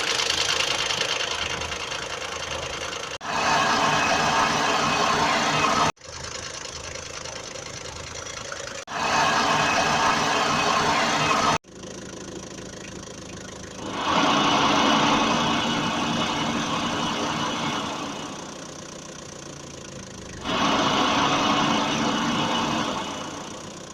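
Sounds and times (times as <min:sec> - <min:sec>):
wheel bearing droning hum: 0:00.0 - 0:23.9.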